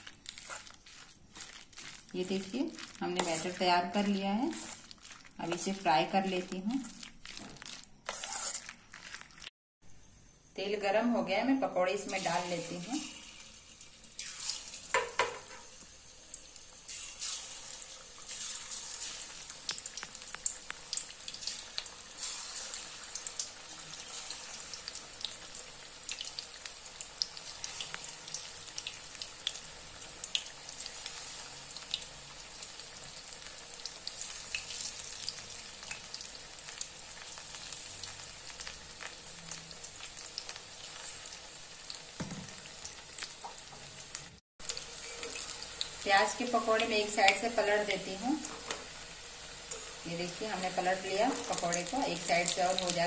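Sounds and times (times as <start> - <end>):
food deep-frying in hot oil: 0.0 - 9.5, 10.5 - 53.0.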